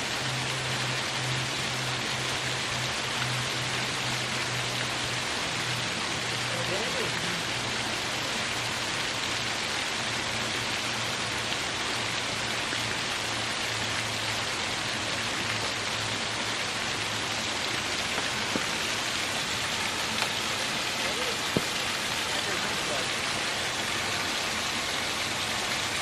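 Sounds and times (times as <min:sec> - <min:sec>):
waterfall splashing over rocks: 0:00.0 - 0:26.0.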